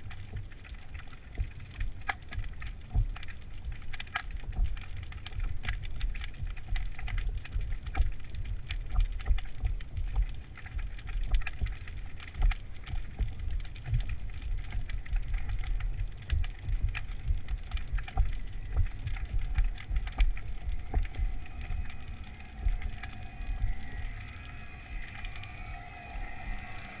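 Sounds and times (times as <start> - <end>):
sharp clicks and crackles: 0.0 - 27.0
underwater water rumble: 0.0 - 27.0.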